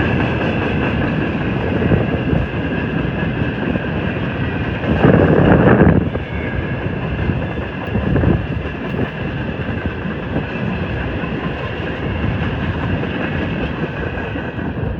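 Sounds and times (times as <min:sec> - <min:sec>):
freight cars rumbling on rails: 0:00.0 - 0:14.9.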